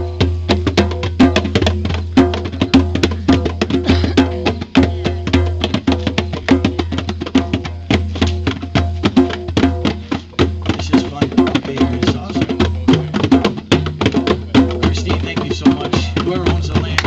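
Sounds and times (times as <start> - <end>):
fast drumming: 0.0 - 17.0.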